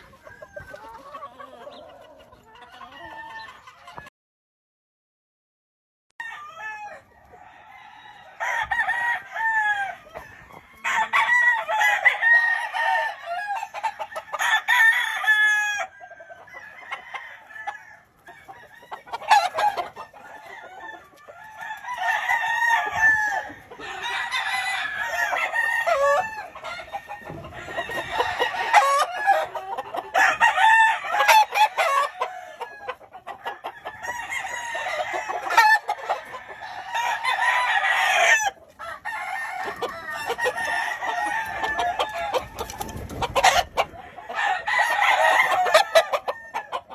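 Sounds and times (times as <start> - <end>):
roosters crowing: 0.0 - 4.1, 6.2 - 46.9.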